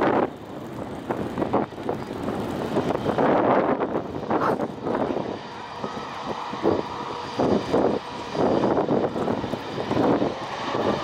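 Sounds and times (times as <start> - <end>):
jet engine rumble: 0.0 - 11.0
jet engines whining: 0.0 - 11.0.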